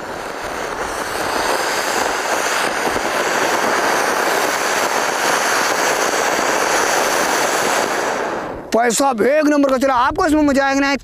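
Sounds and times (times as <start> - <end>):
firework fountain hissing: 0.0 - 9.0.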